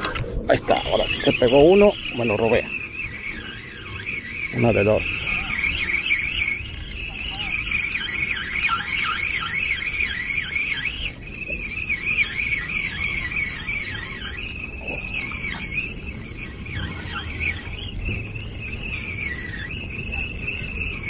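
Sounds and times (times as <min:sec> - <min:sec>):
insect chorus trilling: 0:00.5 - 0:21.0.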